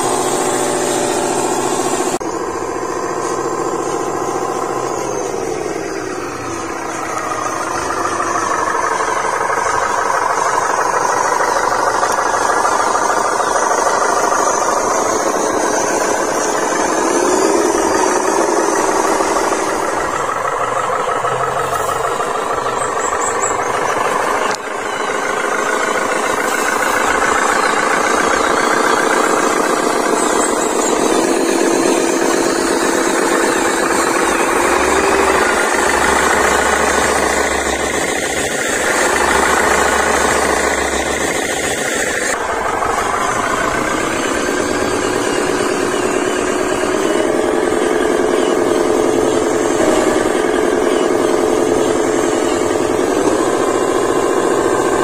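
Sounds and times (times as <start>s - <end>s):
model truck motors whining: 0.0s - 55.0s.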